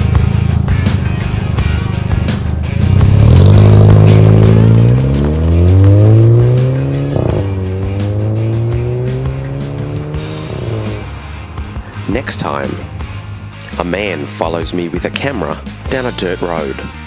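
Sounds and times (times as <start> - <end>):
car engine accelerating: 0.0 - 13.7.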